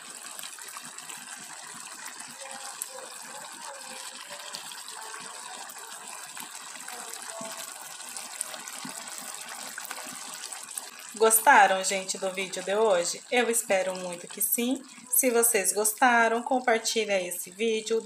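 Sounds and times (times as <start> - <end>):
stew bubbling in a pan: 0.0 - 18.0.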